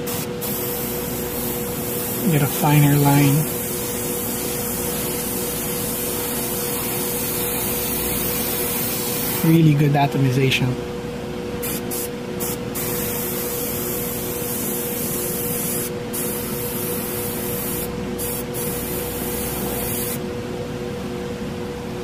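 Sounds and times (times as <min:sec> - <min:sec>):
airbrush air hiss: 0:00.0 - 0:09.6, 0:11.6 - 0:20.2
steady hum: 0:00.0 - 0:22.0.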